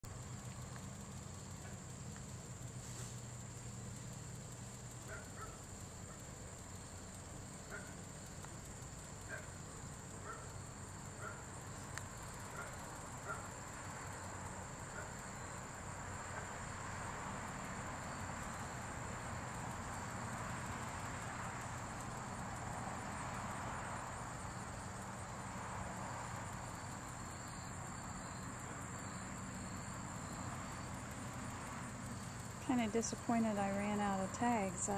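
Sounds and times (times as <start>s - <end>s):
faint hiss: 0.1s - 34.9s
high-pitched insect trill: 0.1s - 34.9s.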